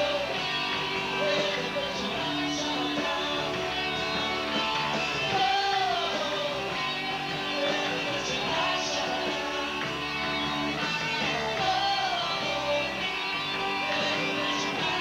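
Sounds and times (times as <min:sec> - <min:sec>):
electric guitars: 0:00.0 - 0:15.0
rock band playing live: 0:00.0 - 0:15.0.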